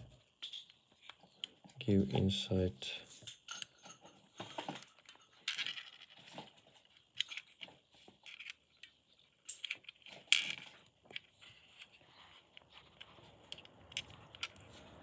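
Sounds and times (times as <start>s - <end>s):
plastic parts clicking and scraping: 0.3s - 2.4s, 3.2s - 15.0s.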